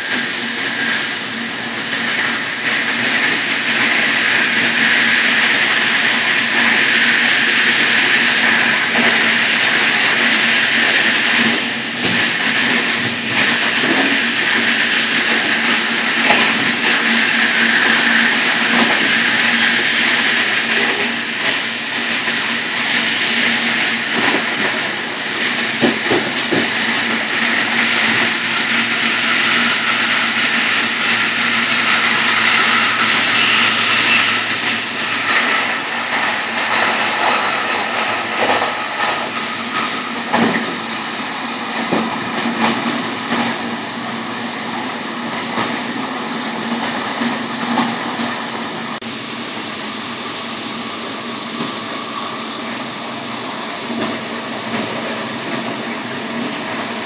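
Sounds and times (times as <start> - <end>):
train wheels rushing on rail: 0.0 - 57.0.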